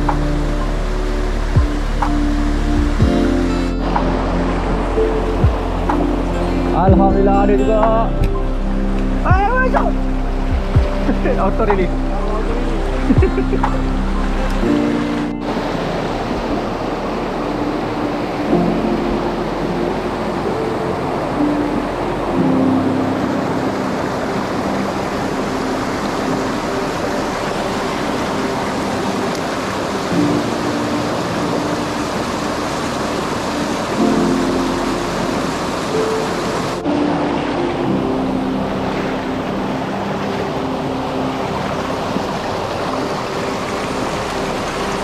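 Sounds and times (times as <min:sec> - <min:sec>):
mountain stream rushing over rocks: 0:00.0 - 0:45.0.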